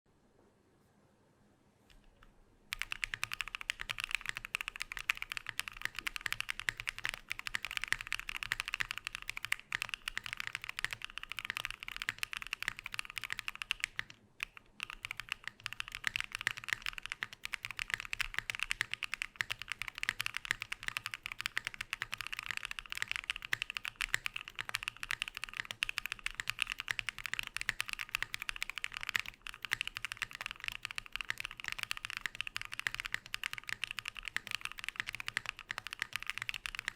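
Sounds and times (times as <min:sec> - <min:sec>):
mechanical keyboard typing: 0:02.7 - 0:36.9.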